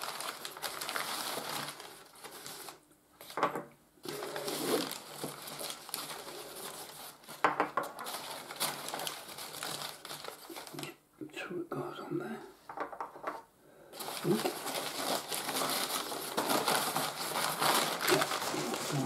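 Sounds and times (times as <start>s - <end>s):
packing paper rustling: 0.0s - 3.4s, 4.0s - 10.9s, 14.0s - 19.0s.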